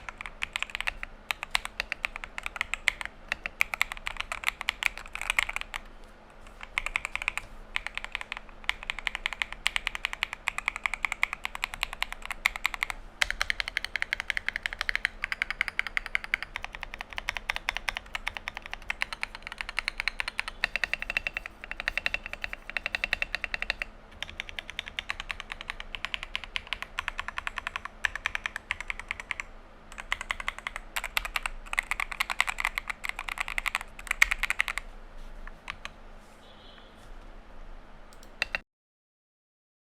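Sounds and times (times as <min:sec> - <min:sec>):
mechanical keyboard typing: 0:00.0 - 0:34.9, 0:35.5 - 0:36.0, 0:38.1 - 0:38.6.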